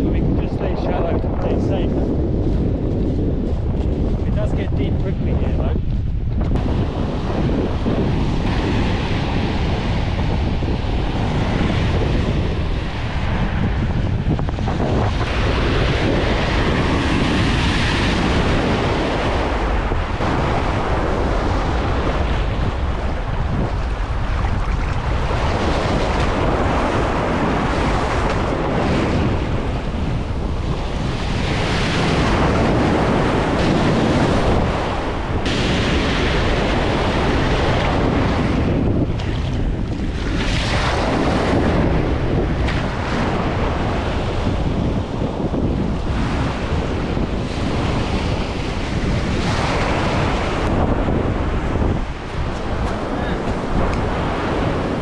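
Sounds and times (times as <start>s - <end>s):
wind buffeting microphone: 0.0s - 55.0s
lake waves breaking on shore: 6.5s - 55.0s.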